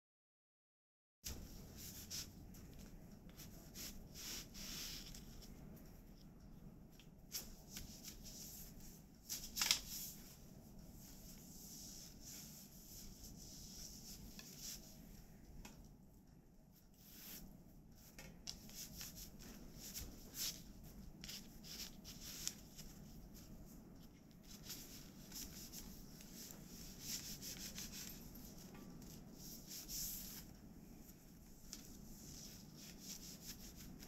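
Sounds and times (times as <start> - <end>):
loom threads rustling and scraping: 1.3 - 15.9, 16.6 - 34.0.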